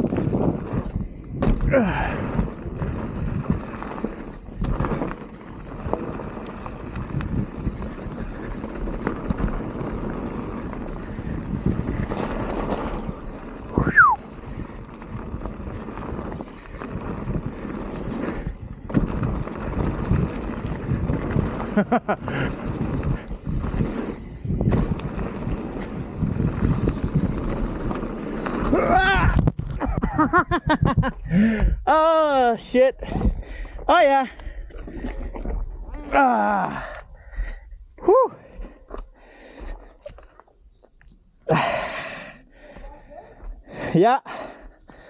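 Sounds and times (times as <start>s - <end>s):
wind over microphone: 0.0s - 31.9s, 33.0s - 39.0s
bike rattling: 0.0s - 45.0s
bike tyres over dirt and roots: 0.0s - 45.0s.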